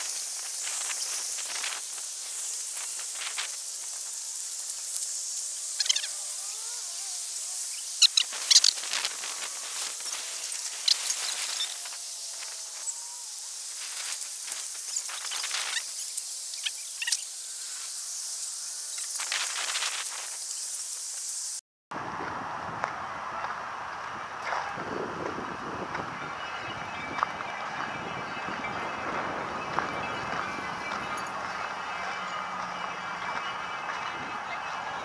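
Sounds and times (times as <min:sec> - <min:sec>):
insect chorus: 0:00.0 - 0:21.6, 0:24.4 - 0:35.0.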